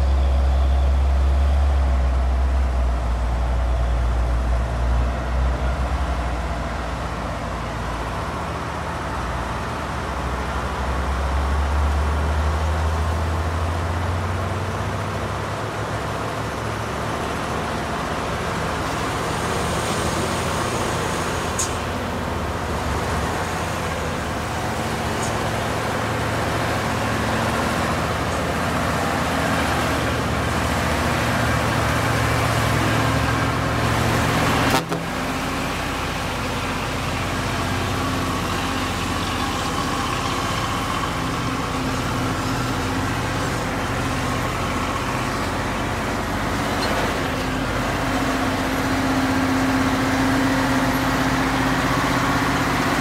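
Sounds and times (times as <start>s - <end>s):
diesel truck engine running: 0.0s - 53.0s
road traffic noise: 0.0s - 53.0s.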